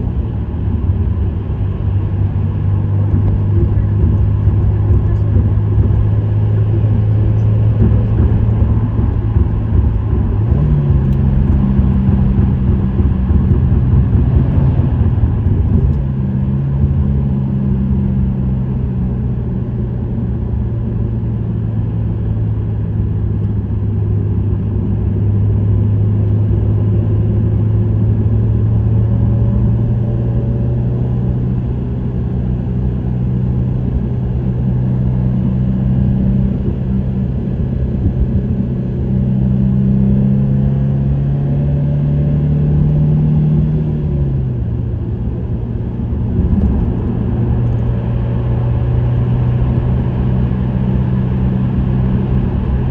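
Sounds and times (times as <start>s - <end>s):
car exhaust note cruising: 0.0s - 52.9s
road rumble: 0.0s - 52.9s.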